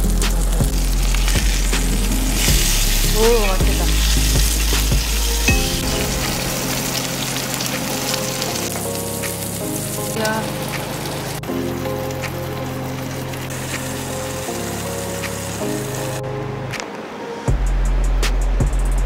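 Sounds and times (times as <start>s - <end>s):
food sizzling in oil: 0.0s - 16.2s
background music: 0.0s - 19.0s.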